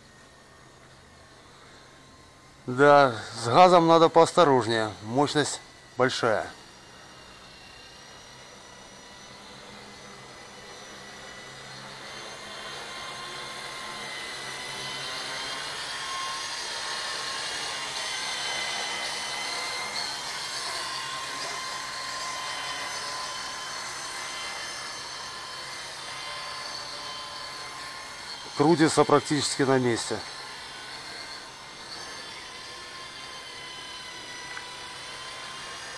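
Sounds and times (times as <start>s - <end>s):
toy helicopter rotor whine: 0.0s - 35.9s.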